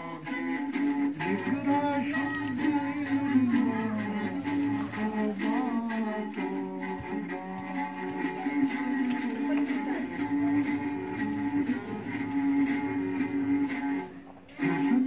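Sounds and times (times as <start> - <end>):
bowed fiddle playing folk tune: 0.0 - 15.0.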